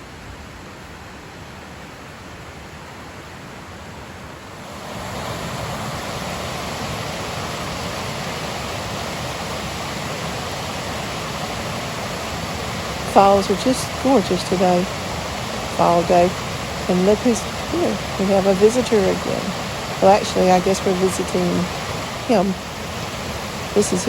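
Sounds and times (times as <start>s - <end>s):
waterfall rushing: 3.8s - 24.0s.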